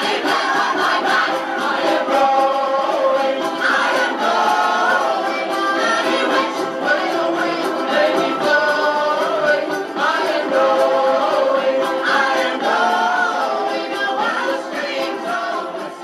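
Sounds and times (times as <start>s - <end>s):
choir singing harmonised notes: 0.0s - 16.0s.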